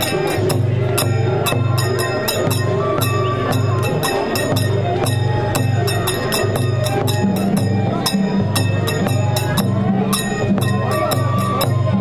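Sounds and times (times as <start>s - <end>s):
festival drum music: 0.0s - 12.0s
sharp percussion strikes: 0.0s - 12.0s.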